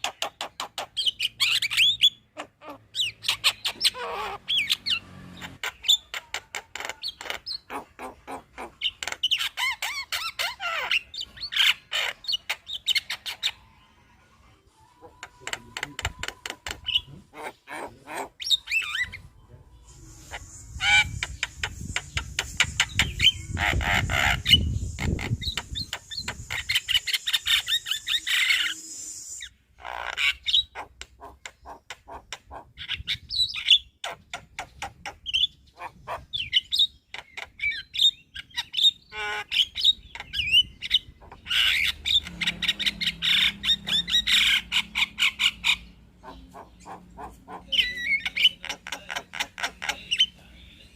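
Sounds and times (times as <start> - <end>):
bird singing with clicks and whistles: 0.0 - 7.7, 8.6 - 13.7, 15.1 - 17.2, 18.4 - 50.9.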